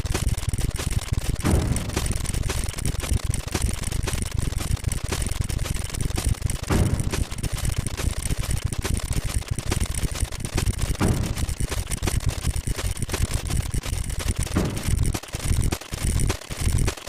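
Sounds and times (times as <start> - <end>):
rapid counter clicks: 0.0 - 17.0.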